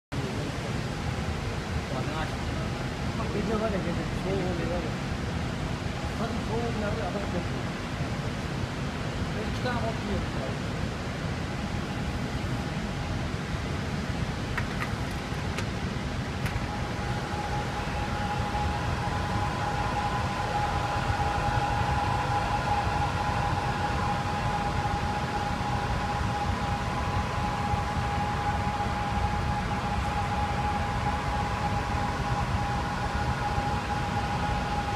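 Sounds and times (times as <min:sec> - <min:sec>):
steady whine: 0:00.1 - 0:34.9
ventilation fans running: 0:00.1 - 0:34.9.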